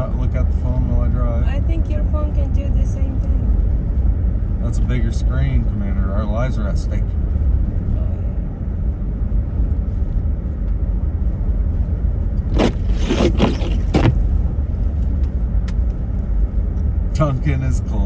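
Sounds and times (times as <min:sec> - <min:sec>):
car driving heard from inside: 0:00.0 - 0:18.0.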